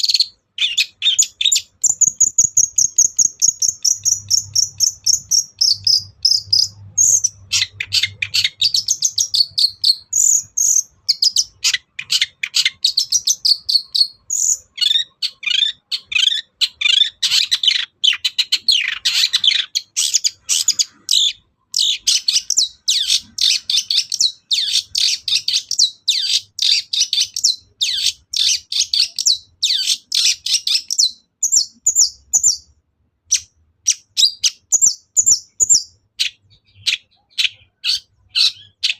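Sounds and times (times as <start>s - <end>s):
bird singing chattering notes: 0.0s - 32.7s, 33.3s - 38.9s.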